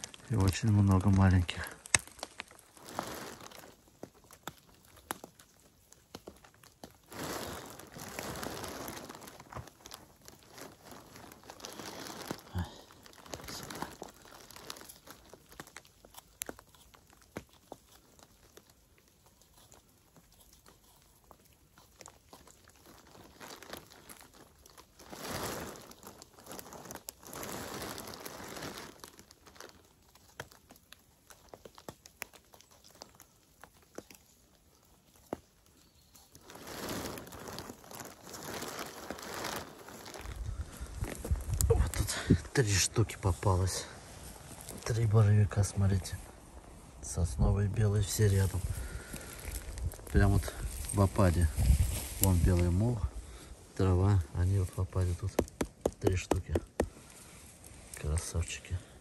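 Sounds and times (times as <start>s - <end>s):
plastic poncho crinkling: 0.0s - 59.0s.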